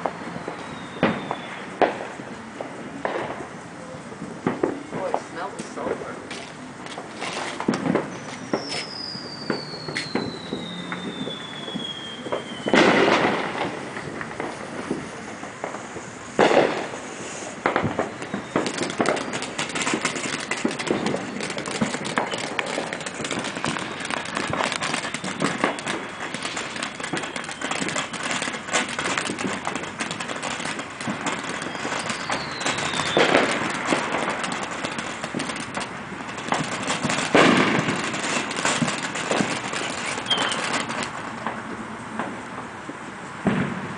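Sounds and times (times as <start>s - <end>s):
loud firework bangs: 0.0s - 3.6s, 4.2s - 42.5s, 43.4s - 43.9s
falling firework whistles: 0.0s - 41.3s
firework fountain crackling: 0.0s - 43.9s.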